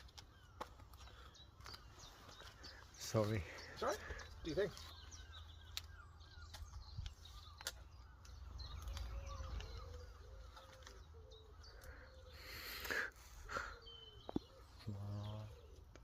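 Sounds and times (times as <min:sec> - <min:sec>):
faint bird calls: 0:00.0 - 0:16.0.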